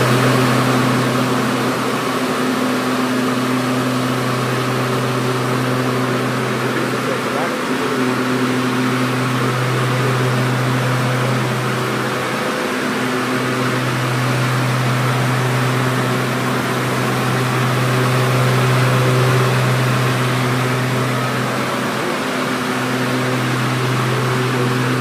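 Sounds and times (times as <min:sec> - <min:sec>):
electric lawn mower running: 0:00.0 - 0:25.0.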